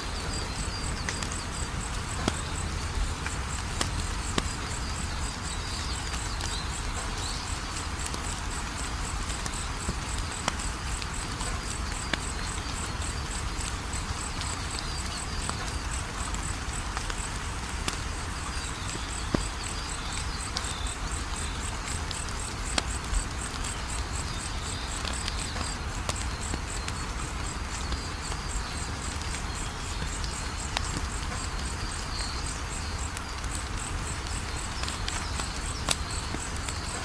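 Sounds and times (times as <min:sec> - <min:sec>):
crickets chirping: 0:00.0 - 0:37.0
fire crackling and popping: 0:00.0 - 0:37.0.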